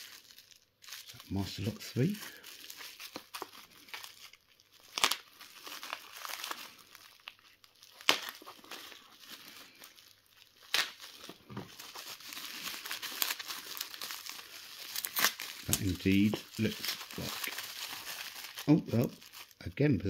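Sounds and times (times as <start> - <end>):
sharp bubble wrap crackles: 0.0 - 19.7
bubble wrap crinkling: 0.0 - 19.8.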